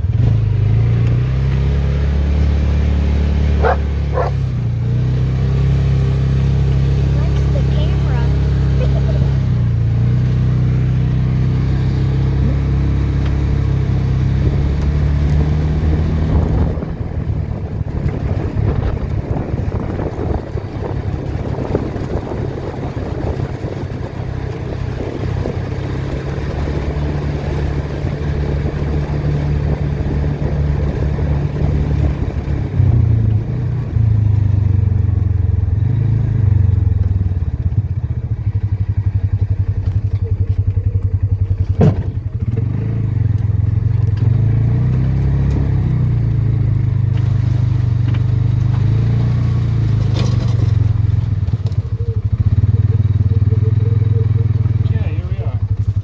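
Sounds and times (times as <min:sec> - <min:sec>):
small vehicle engine driving: 0:00.0 - 0:56.0.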